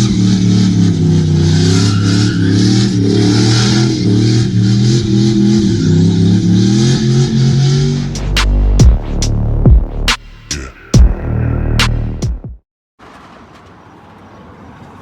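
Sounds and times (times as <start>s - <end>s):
vehicle engine revving: 0.0s - 12.4s.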